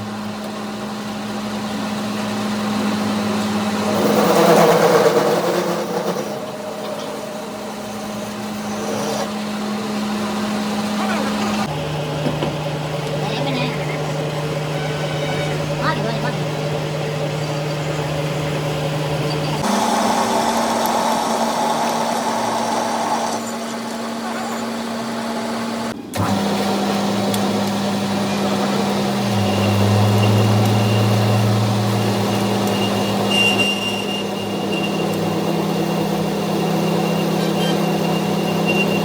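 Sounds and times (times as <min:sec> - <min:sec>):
engine running steadily: 0:00.0 - 0:39.0.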